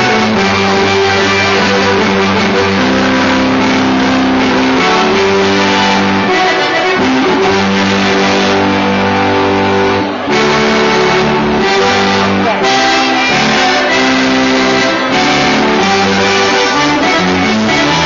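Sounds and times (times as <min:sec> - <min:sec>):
reed-like folk dance tune: 0:00.0 - 0:18.0.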